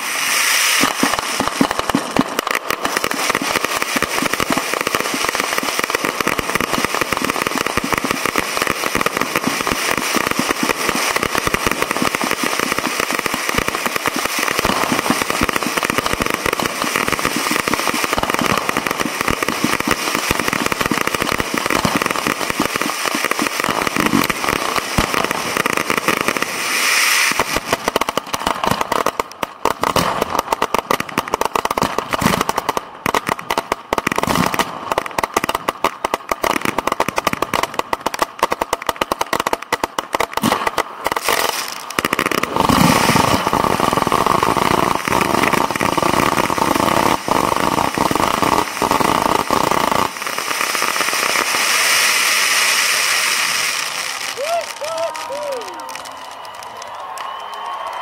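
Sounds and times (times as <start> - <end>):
firework hiss: 0.0 - 56.5
firework launch bangs and crackle: 0.0 - 58.0.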